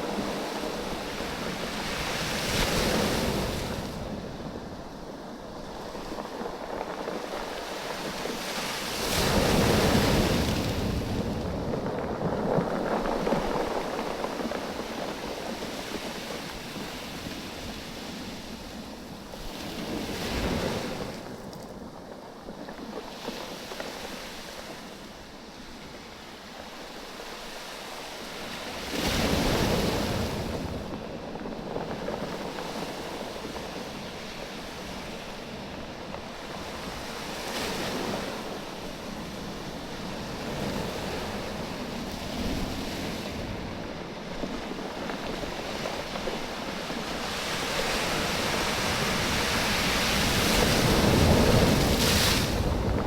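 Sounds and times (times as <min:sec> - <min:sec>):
waves washing over beach: 0:00.0 - 0:53.0
wind on microphone: 0:00.0 - 0:53.0.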